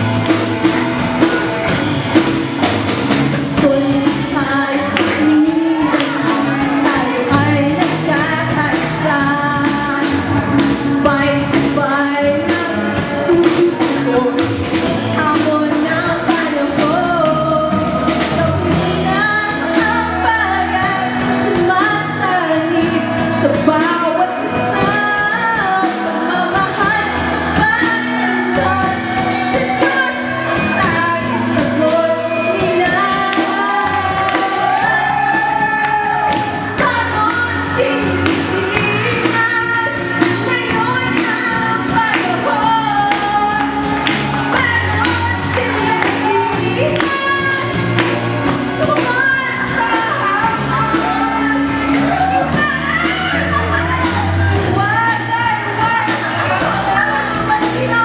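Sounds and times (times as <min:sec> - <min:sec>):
pop music accompaniment with drum beat: 0:00.0 - 0:58.0
woman singing into microphone: 0:03.3 - 0:58.0.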